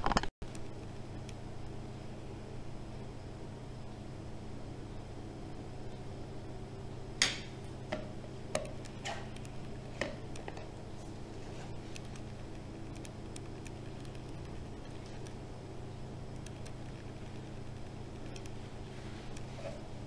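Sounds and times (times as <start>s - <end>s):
low hum: 0.4s - 20.0s.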